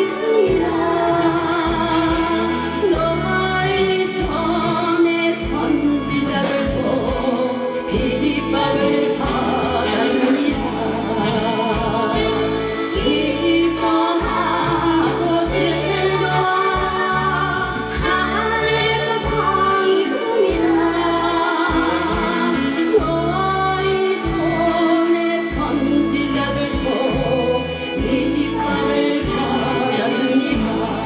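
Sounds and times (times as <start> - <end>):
bass notes: 0.0 - 24.9
drum beats: 0.0 - 31.0
person singing with vibrato: 0.0 - 31.0.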